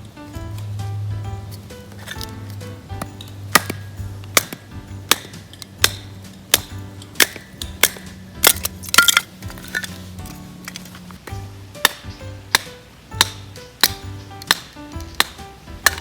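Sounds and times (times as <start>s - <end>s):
background music with held notes: 0.0s - 16.0s
repeated sharp strikes: 0.5s - 10.3s, 11.2s - 16.0s.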